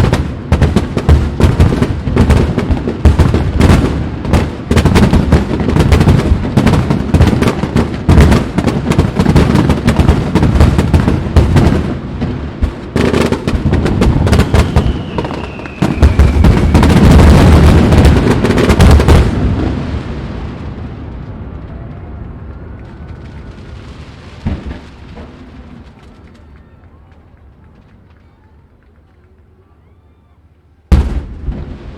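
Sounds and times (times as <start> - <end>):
firework bang: 0.0 - 22.2, 22.8 - 26.5, 30.9 - 31.9
rolling echo of booms: 0.0 - 26.2, 30.9 - 31.9
fireworks bursting and crackling: 0.0 - 29.7, 30.9 - 31.9.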